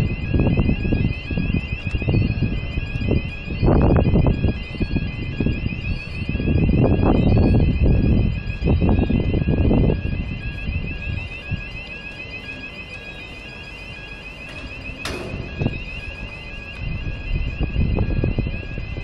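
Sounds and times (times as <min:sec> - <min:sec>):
wind rumble on microphone: 0:00.0 - 0:11.9, 0:14.4 - 0:19.0
electronic alarm warbling: 0:00.0 - 0:19.0
low intermittent beep: 0:00.0 - 0:19.0.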